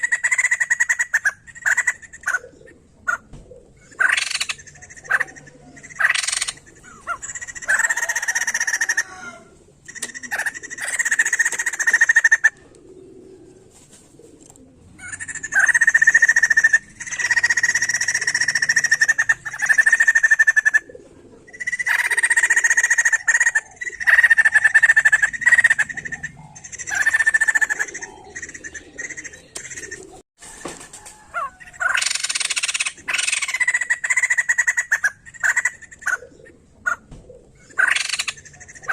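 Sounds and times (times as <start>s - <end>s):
bird harsh chattering calls: 0.0s - 3.2s, 3.8s - 12.6s, 15.0s - 20.9s, 21.5s - 30.2s, 31.1s - 37.0s, 37.6s - 38.9s.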